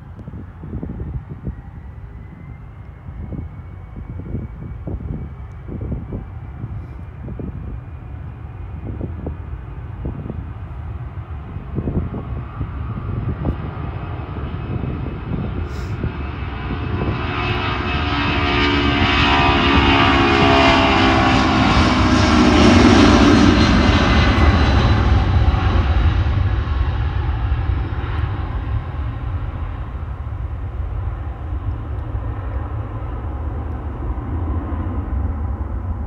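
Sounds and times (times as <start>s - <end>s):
jet engines at takeoff power: 0.0s - 36.0s.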